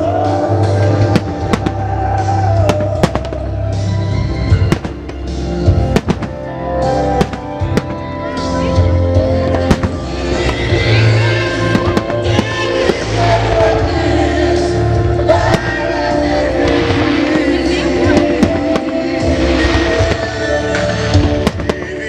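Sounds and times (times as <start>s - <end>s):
fireworks bursting and crackling: 0.0s - 22.0s
loud musical-theatre music: 0.0s - 22.0s.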